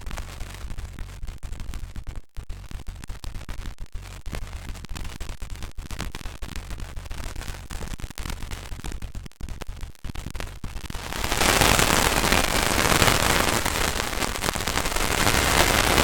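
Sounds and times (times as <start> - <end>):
dense crackling clicks: 0.0 - 16.0
harsh distorted static noise: 0.0 - 16.0.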